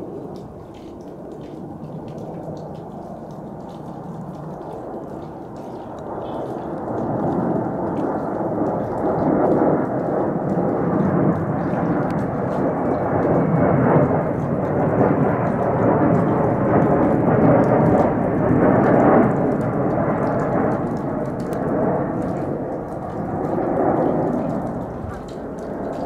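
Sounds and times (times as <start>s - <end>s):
jet airliner flying overhead: 0.0s - 26.0s.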